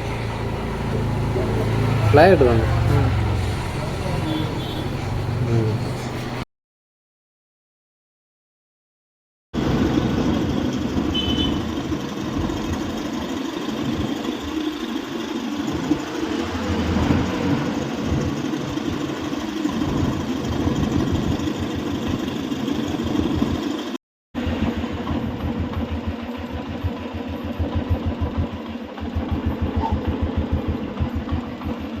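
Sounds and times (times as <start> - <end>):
engine problem noise: 0.0 - 6.4, 9.6 - 32.0
single-cylinder engine idling: 0.0 - 6.4, 10.2 - 16.7, 17.6 - 23.9, 24.5 - 32.0.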